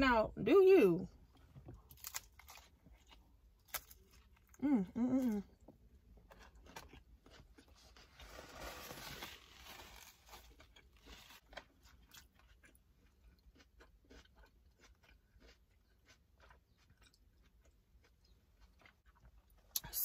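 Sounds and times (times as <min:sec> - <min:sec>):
crunchy chewing: 0:01.3 - 0:04.6, 0:05.4 - 0:19.8.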